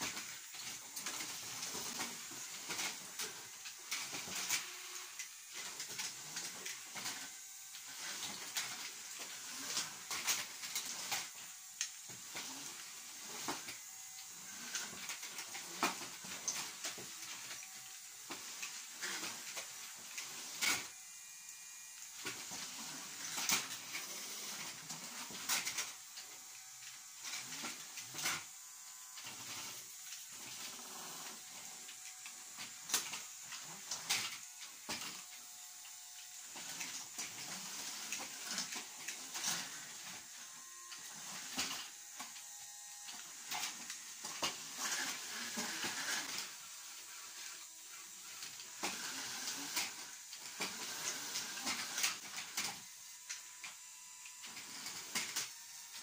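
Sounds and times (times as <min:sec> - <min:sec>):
small electric motors whirring: 0:00.0 - 0:56.0.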